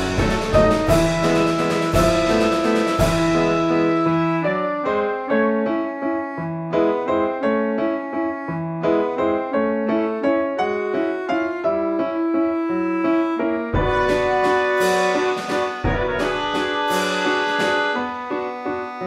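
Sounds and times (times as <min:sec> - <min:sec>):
instrumental background music: 0:00.0 - 0:19.0.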